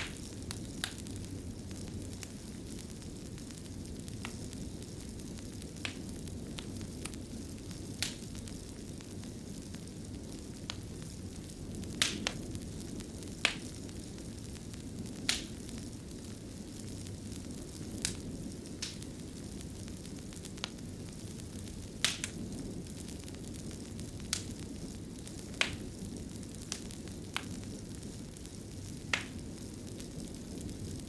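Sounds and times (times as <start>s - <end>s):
fire crackling and popping: 0.0s - 31.0s
fire rushing: 0.0s - 31.0s.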